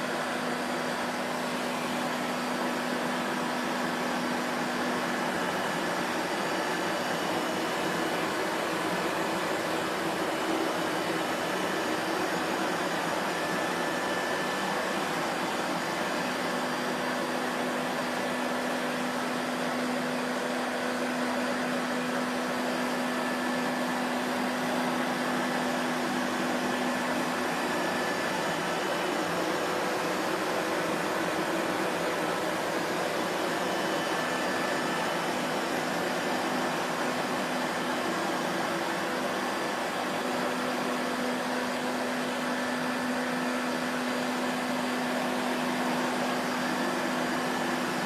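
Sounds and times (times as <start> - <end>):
vacuum cleaner running: 0.0 - 48.0.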